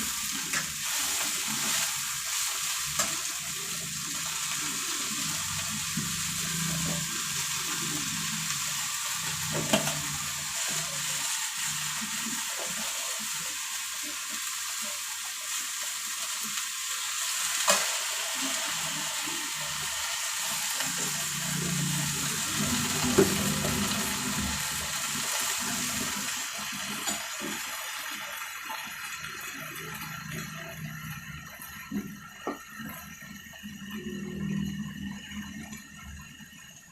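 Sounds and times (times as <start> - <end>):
stir-frying sizzle: 0.0 - 36.9.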